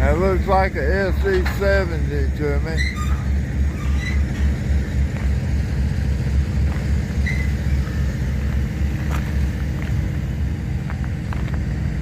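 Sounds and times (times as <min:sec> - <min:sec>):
diesel locomotive engine rumbling: 0:00.0 - 0:12.0.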